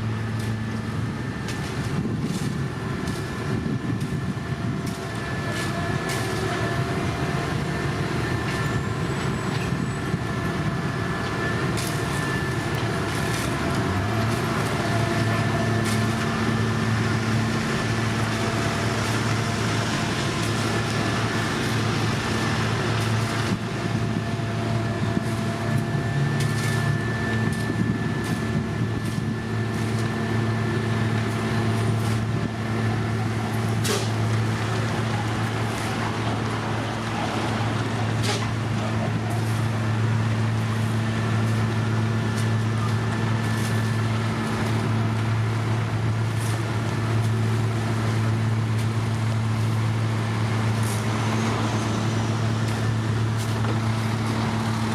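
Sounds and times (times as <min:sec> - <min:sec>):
diesel paving machine engine drone: 0:00.0 - 0:54.9.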